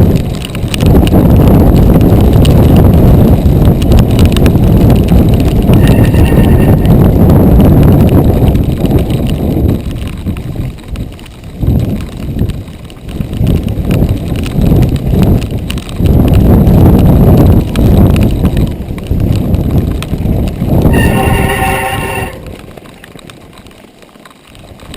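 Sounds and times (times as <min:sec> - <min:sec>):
bike rattling and clicking: 0:00.0 - 0:24.9
bike tyres rumbling on dirt: 0:00.0 - 0:24.9
wind buffeting the microphone: 0:00.0 - 0:24.9.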